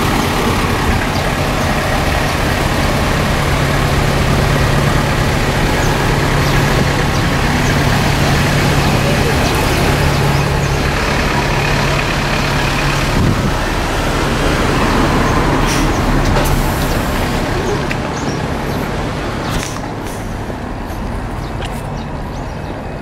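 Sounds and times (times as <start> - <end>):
heavy vehicle engine running: 0.0 - 23.0
road noise: 0.0 - 23.0.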